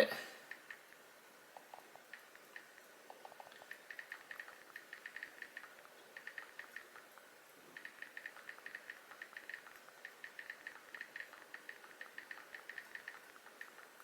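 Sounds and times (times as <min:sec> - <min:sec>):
touchscreen typing clicks: 0:01.6 - 0:07.1, 0:07.8 - 0:14.0.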